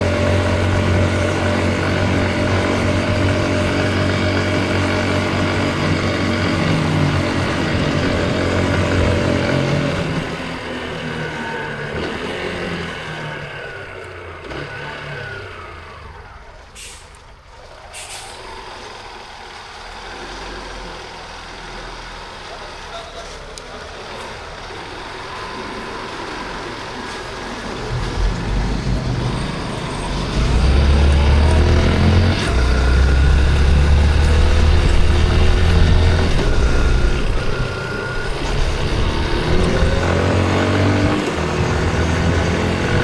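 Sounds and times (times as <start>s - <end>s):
motorcycle engine: 0.0s - 17.9s, 22.1s - 43.0s
street traffic: 0.0s - 43.0s.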